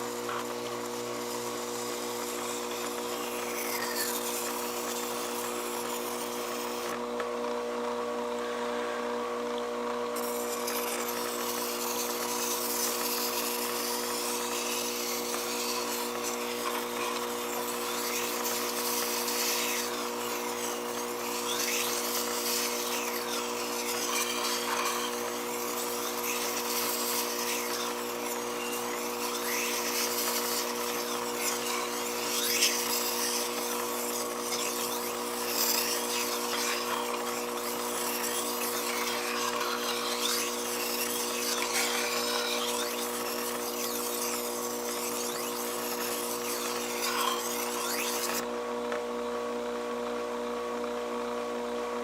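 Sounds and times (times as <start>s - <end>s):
blade scraping on grinding wheel: 0.0s - 7.3s, 9.8s - 48.5s
sharpening machine motor hum: 0.0s - 51.2s.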